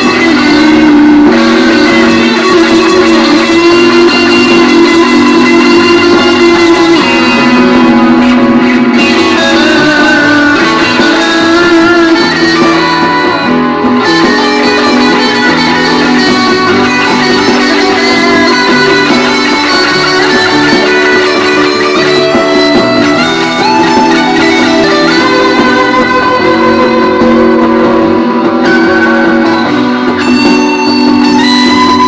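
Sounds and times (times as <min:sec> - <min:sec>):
electric guitar notes and chords: 0:00.0 - 0:32.0.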